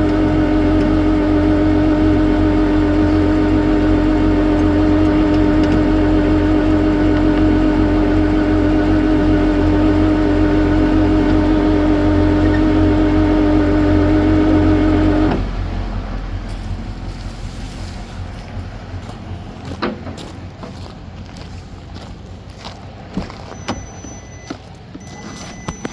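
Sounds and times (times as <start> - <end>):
truck engine humming: 0.0 - 25.9.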